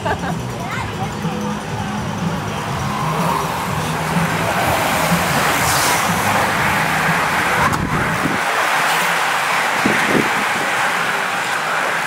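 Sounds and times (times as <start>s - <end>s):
racing bicycles passing: 0.0s - 12.0s.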